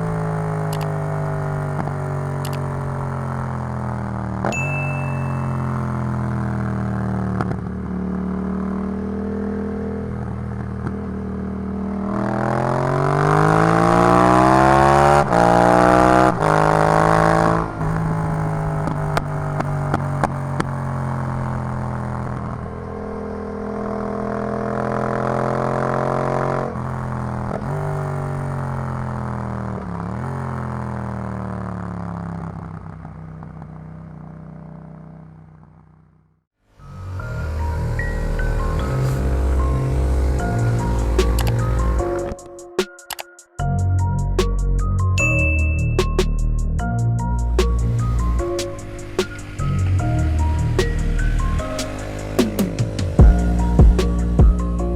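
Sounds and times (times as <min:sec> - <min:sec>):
motorcycle engine accelerating: 0:00.0 - 0:42.5, 0:46.0 - 0:54.9.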